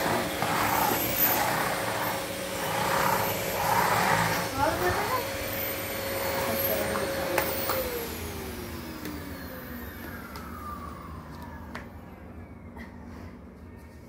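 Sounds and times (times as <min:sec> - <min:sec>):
vacuum cleaner motor whining: 0:00.0 - 0:12.8.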